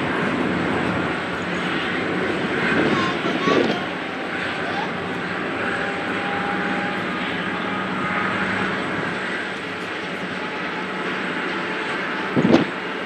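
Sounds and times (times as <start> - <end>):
jet engines running at low thrust: 0.0 - 13.0.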